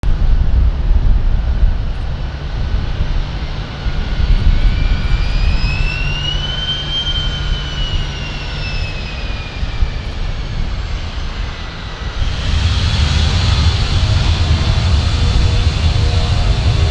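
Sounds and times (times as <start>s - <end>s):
jet engines on takeoff: 0.1s - 16.9s.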